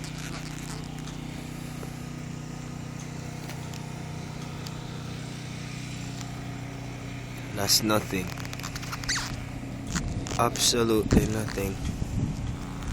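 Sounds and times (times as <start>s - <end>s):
engine idling: 0.0s - 12.9s.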